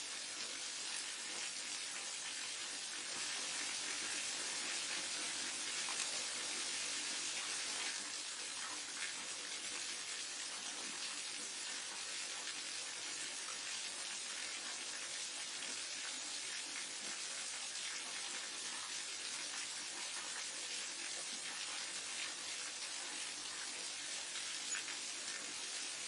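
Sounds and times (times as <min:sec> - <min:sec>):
water falling and rushing: 0:00.0 - 0:26.0.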